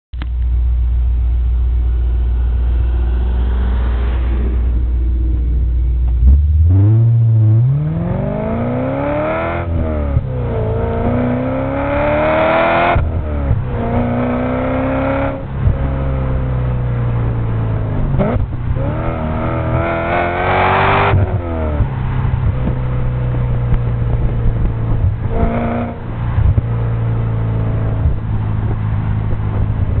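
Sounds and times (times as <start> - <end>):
car engine accelerating through gears: 1.9 - 30.0.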